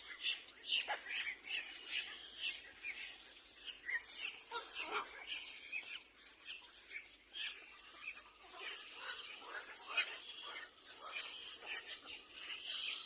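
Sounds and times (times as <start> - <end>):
chicks chirping and squealing: 0.0 - 13.0.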